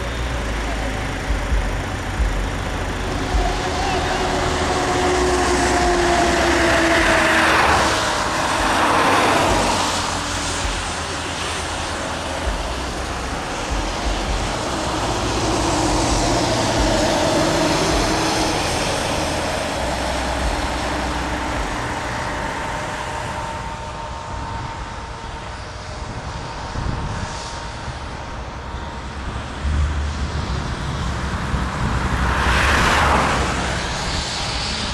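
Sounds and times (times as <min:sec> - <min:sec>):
steady low traffic rumble: 0:00.0 - 0:34.9
vehicles passing by: 0:00.0 - 0:34.9.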